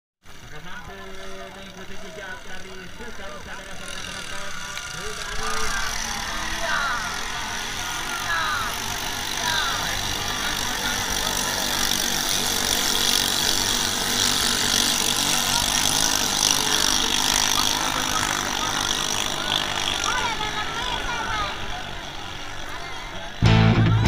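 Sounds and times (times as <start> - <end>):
racing boat engines droning: 0.2 - 24.0
crowd voices: 0.3 - 24.0.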